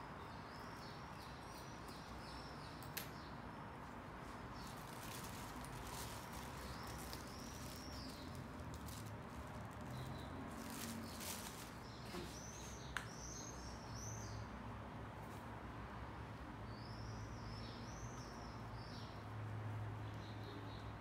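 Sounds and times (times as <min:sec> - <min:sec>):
small songbirds chirping: 0:00.0 - 0:14.7, 0:16.6 - 0:21.0.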